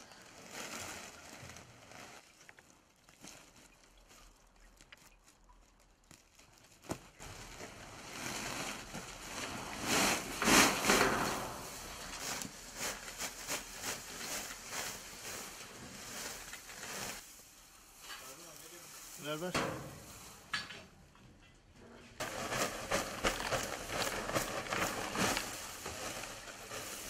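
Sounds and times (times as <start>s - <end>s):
dried herbs rustling: 0.0s - 20.5s, 22.2s - 27.0s.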